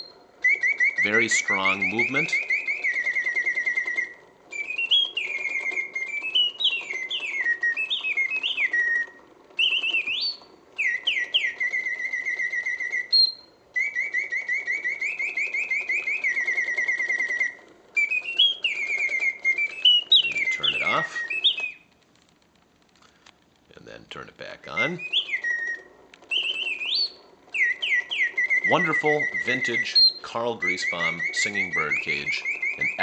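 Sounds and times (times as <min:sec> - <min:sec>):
mechanical bird whistling trills: 0:00.0 - 0:22.0, 0:24.4 - 0:33.0.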